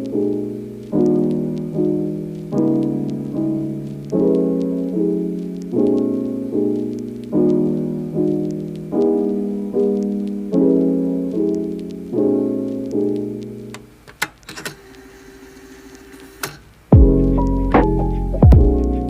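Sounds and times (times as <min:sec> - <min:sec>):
piano chords: 0:00.0 - 0:14.0, 0:16.9 - 0:19.0.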